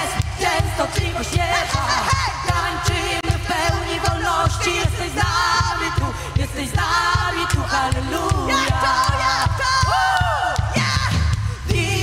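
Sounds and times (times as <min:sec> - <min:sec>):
steady drum beat: 0:00.0 - 0:12.0
woman singing backing vocals: 0:00.0 - 0:12.0
woman singing lead: 0:00.0 - 0:12.0.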